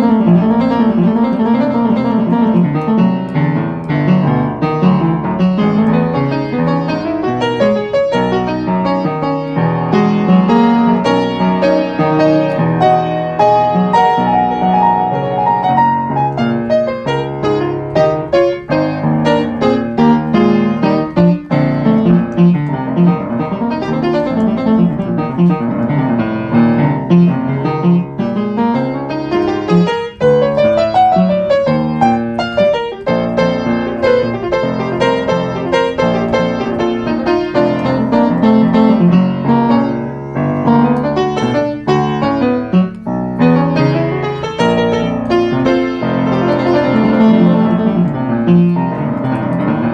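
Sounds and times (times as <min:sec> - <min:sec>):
piano music: 0:00.0 - 0:49.9.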